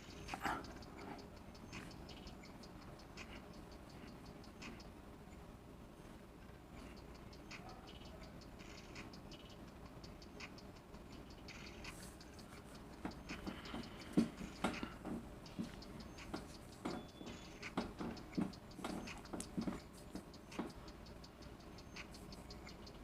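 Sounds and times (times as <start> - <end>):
faint tinny music from earbuds: 0.0 - 23.0.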